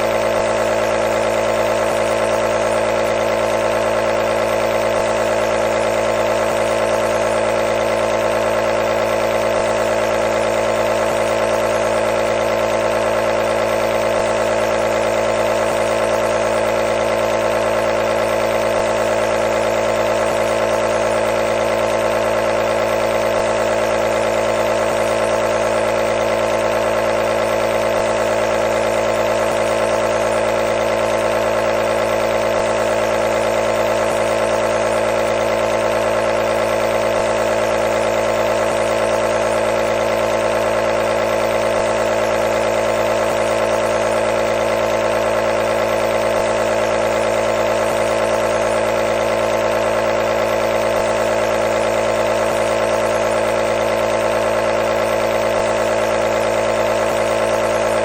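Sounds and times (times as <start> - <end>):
nebulizer compressor humming: 0.0 - 58.0.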